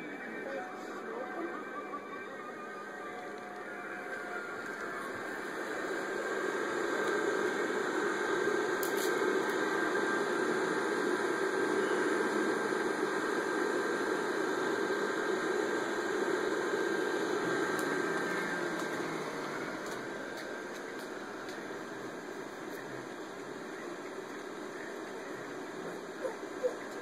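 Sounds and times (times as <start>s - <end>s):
blower fan motor hum with whine: 0.0s - 27.0s.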